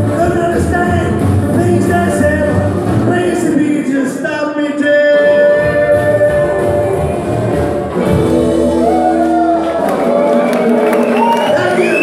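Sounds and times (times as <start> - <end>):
live band playing: 0.0 - 4.3, 5.0 - 12.0.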